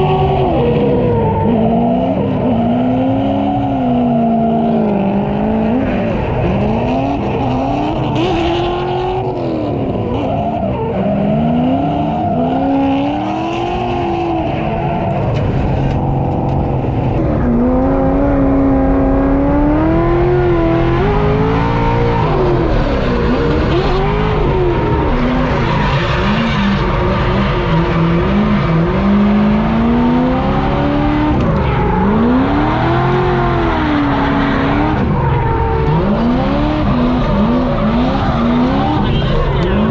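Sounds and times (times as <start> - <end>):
tires squealing: 0.0 - 17.2, 20.4 - 39.9
car engine revving: 0.0 - 39.9.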